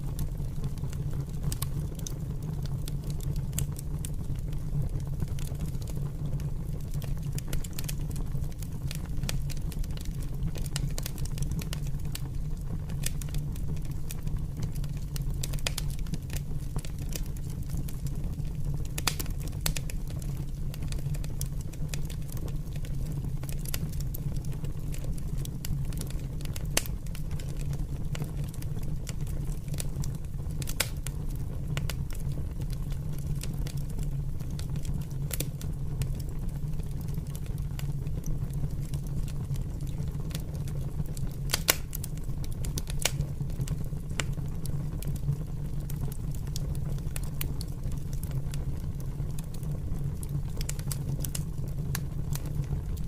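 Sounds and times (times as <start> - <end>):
open fire crackling: 0.0 - 53.0.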